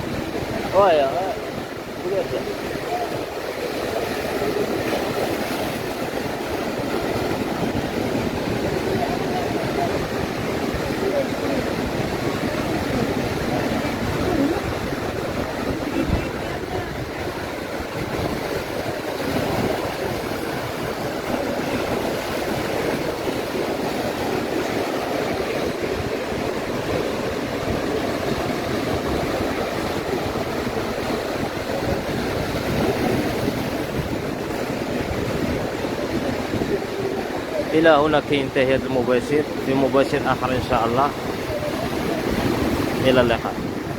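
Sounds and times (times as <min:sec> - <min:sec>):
surf washing on beach: 0:00.0 - 0:43.9
wind on microphone: 0:00.0 - 0:43.9.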